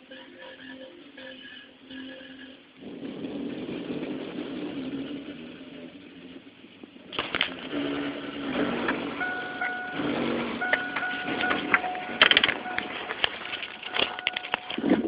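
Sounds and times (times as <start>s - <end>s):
music through car audio system: 0.0s - 15.0s.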